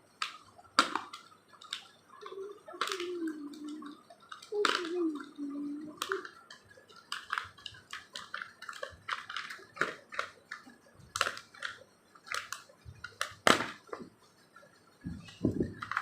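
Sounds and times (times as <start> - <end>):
plastic packaging crinkling: 0.2 - 14.1, 15.0 - 16.0.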